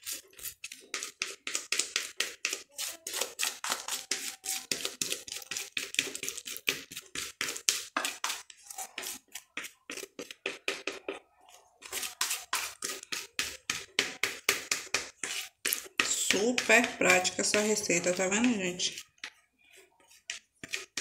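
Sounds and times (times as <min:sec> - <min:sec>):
spatula scraping mixing bowl: 0:00.0 - 0:21.0.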